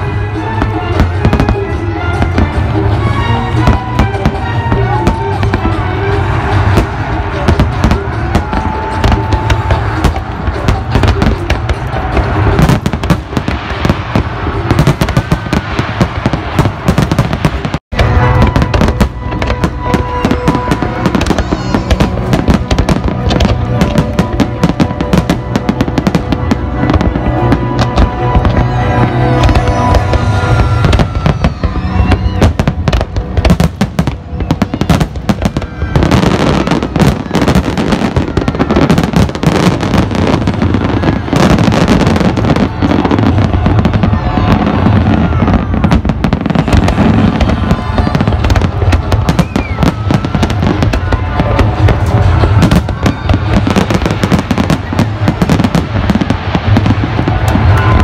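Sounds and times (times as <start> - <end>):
fireworks bursting and crackling: 0.0 - 58.0
music playing: 0.0 - 58.0.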